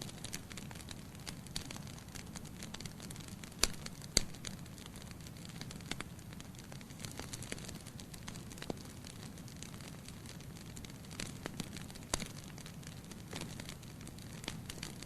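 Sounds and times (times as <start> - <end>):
logs crackling in fireplace: 0.0 - 15.0
loud fire pops: 0.0 - 15.0
low rumble of flame: 0.0 - 15.0.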